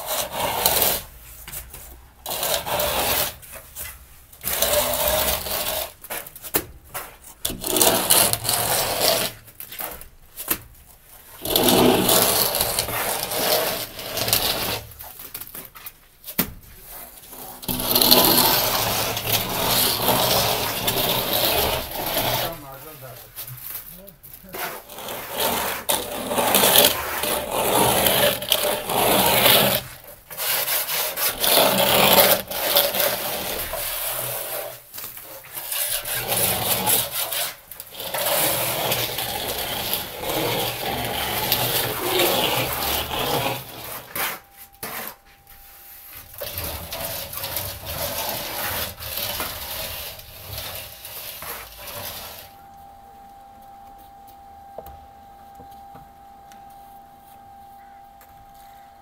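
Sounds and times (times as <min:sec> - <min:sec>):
plastering tools scraping a wall: 0:00.0 - 0:52.5.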